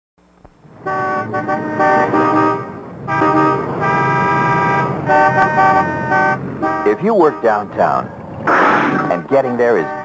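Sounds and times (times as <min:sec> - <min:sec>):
car horns honking: 0:00.6 - 0:10.0.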